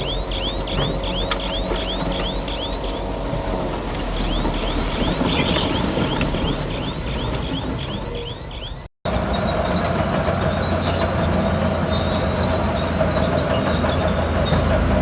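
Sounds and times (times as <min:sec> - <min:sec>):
bulldozer engine rumble: 0:00.0 - 0:15.0
bulldozer tracks squealing: 0:00.0 - 0:15.0.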